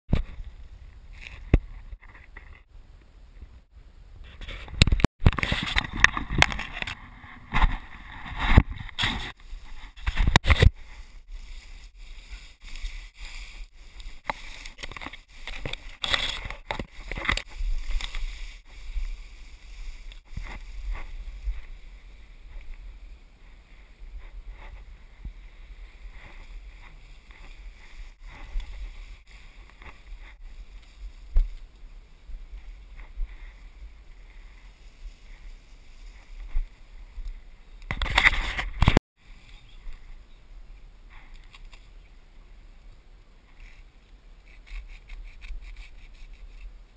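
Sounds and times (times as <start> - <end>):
rustling of grass and leaves: 0.1 - 46.9.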